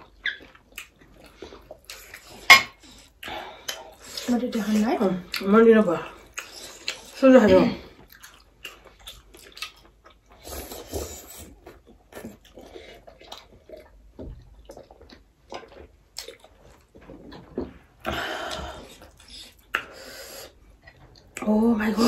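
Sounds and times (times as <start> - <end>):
people chewing: 0.0 - 22.0.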